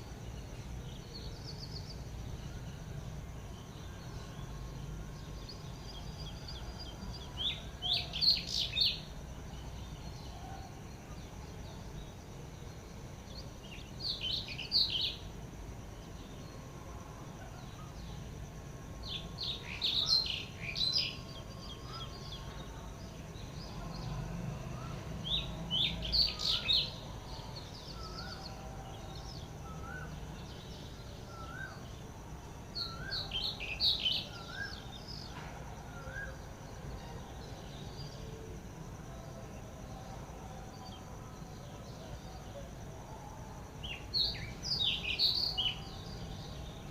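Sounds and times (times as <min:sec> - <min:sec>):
high-pitched background hiss: 0:00.0 - 0:46.9.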